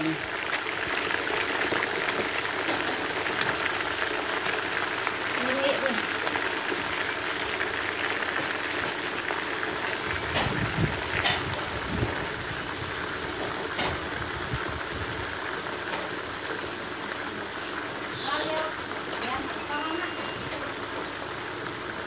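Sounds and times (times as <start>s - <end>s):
oil sizzling and bubbling: 0.0s - 22.0s.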